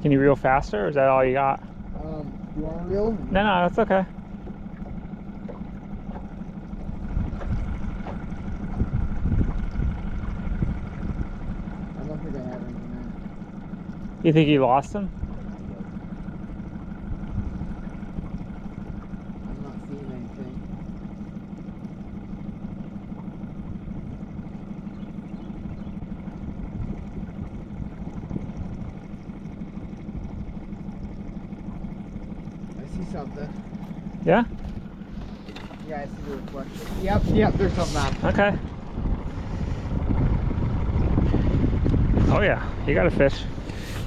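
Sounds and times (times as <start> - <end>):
wind buffeting microphone: 0.0 - 21.2, 23.5 - 44.0
boat motor humming: 0.0 - 44.0.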